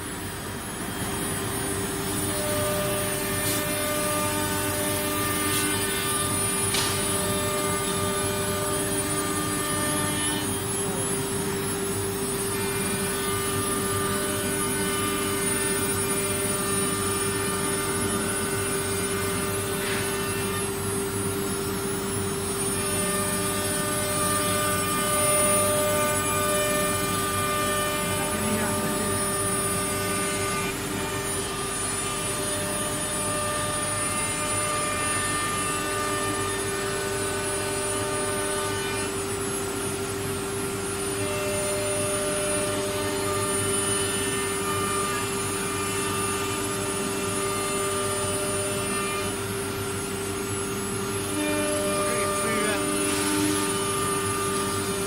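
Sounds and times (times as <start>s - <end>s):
router spindle whine: 0.0s - 55.0s.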